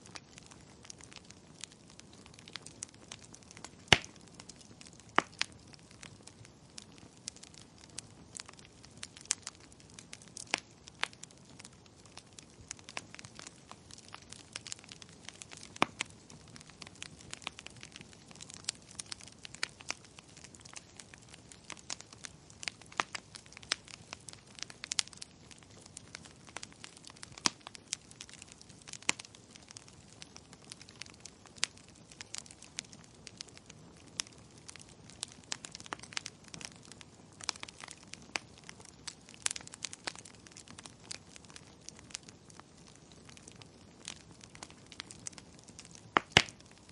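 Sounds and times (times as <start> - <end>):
faint steady hiss: 0.0 - 46.9
firewood crackling and popping: 0.0 - 46.9.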